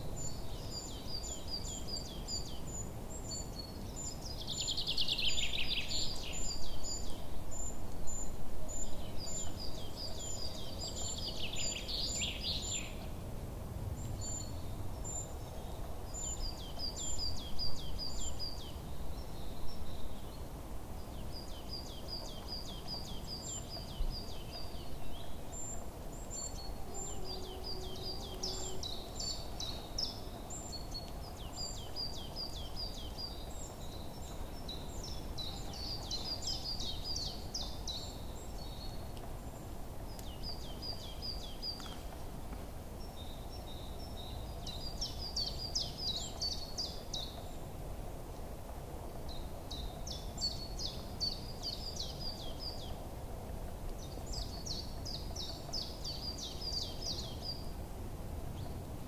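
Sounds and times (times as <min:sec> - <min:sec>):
small birds chirping: 0:00.0 - 0:13.2, 0:14.0 - 0:57.8
low background hiss: 0:00.0 - 0:59.0.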